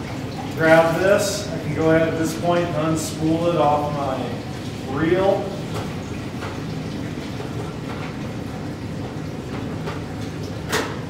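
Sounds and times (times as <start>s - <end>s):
running water in a sink: 0.0s - 11.0s.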